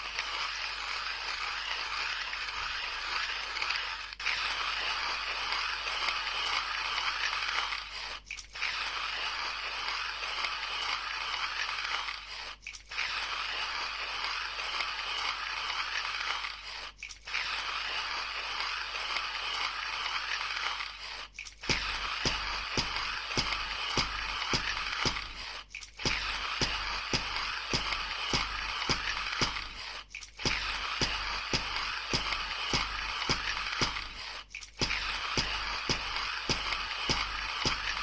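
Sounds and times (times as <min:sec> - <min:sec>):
coffee beans crunching in grinder: 0:00.0 - 0:38.0.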